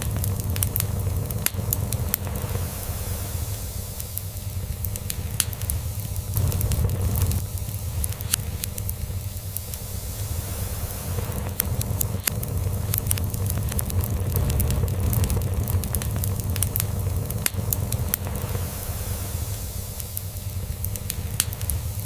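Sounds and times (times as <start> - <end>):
log fire crackling: 0.0 - 22.0.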